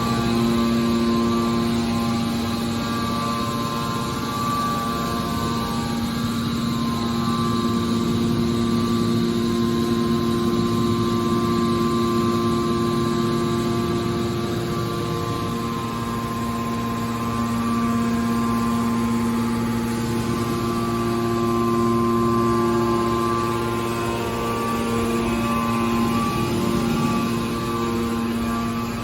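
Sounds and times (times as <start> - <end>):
hydraulic machine humming: 0.0 - 29.0.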